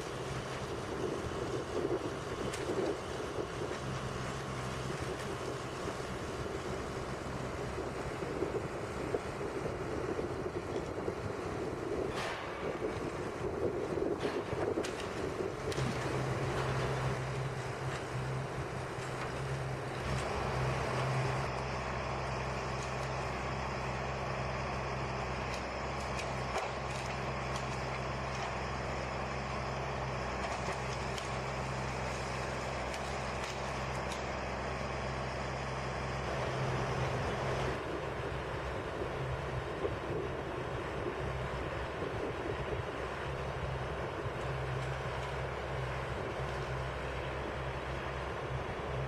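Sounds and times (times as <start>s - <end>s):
heavy machine engine humming: 0.0s - 49.0s.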